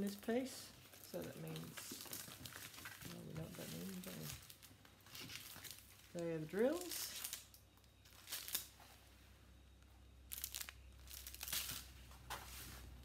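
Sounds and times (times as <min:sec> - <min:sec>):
plastic packaging crinkling: 0:00.0 - 0:08.8, 0:10.3 - 0:12.6.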